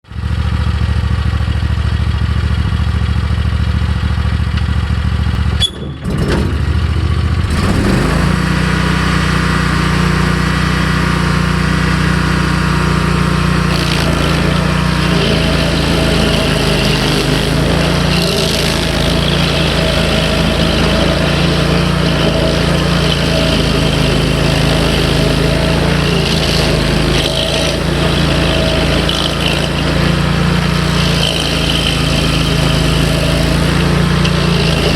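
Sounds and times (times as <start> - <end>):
stump grinder engine running: 0.0 - 34.9.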